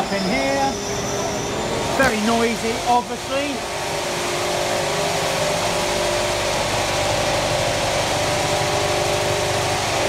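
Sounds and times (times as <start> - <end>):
vibratory finishing machine running: 0.0 - 10.0.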